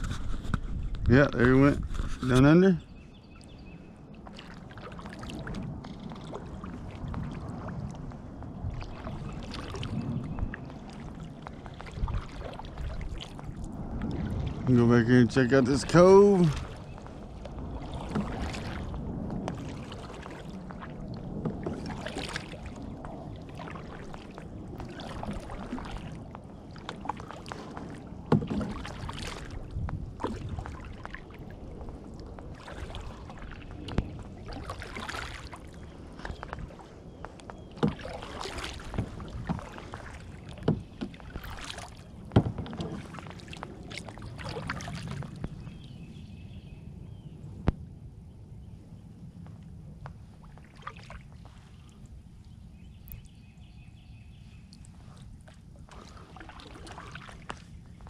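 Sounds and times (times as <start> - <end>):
paddle splashing in water: 0.0 - 1.0, 3.3 - 46.5, 49.9 - 58.0.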